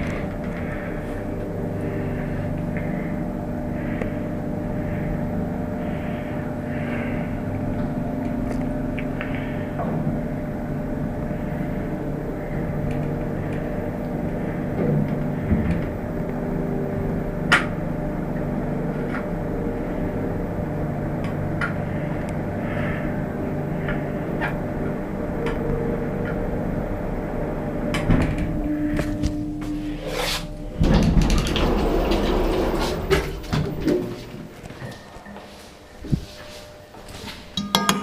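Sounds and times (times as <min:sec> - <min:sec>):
steady tone: 0:00.0 - 0:37.0
lift machine hum: 0:00.0 - 0:37.5.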